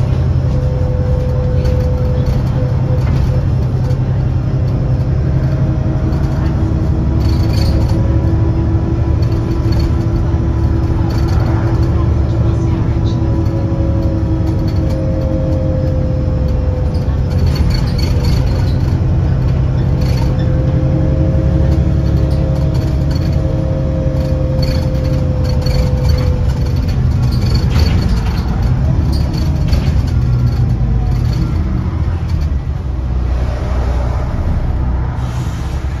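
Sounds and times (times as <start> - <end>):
bus engine drone: 0.0 - 36.0
drivetrain whine: 0.0 - 36.0
light rattles: 1.0 - 32.8.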